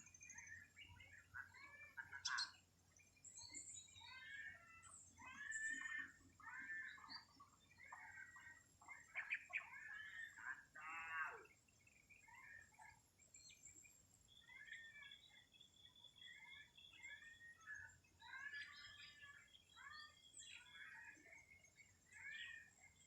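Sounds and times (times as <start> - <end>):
faint birdsong chirping: 0.0 - 23.0.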